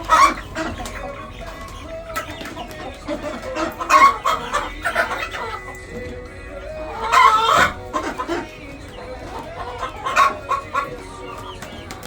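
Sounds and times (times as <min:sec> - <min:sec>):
hens clucking and calling: 0:00.0 - 0:12.0.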